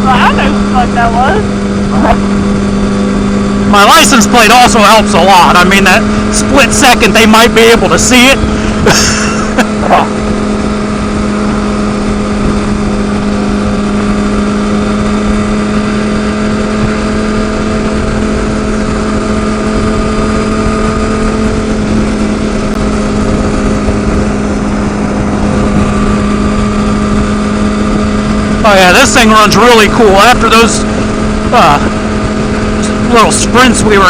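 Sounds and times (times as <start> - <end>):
motorcycle engine cruising: 0.0 - 34.0
wind noise rushing: 0.0 - 34.0.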